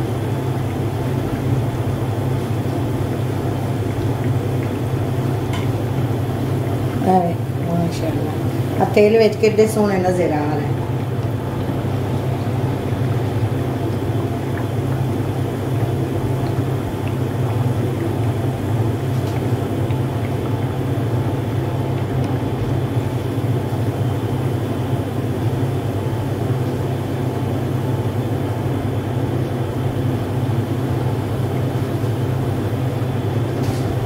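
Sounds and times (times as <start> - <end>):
low steady rumble: 0.0 - 34.0
oil bubbling and sizzling: 0.0 - 34.0.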